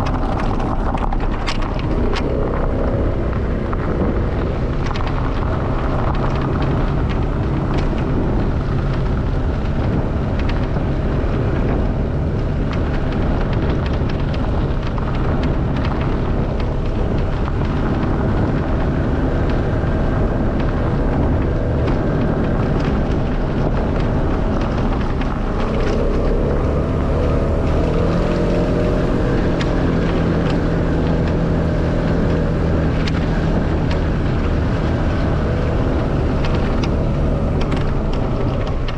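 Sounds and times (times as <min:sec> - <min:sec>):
tyres crunching on gravel: 0:00.0 - 0:38.9
vehicle engine running: 0:00.0 - 0:38.9.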